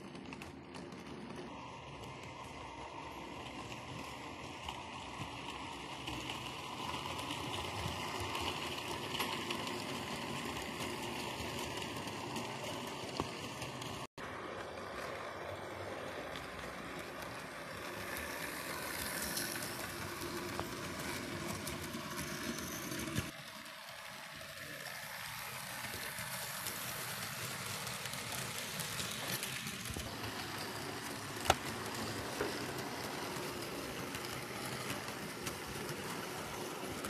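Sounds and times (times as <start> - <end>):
model trains whirring on rails: 0.0 - 37.0.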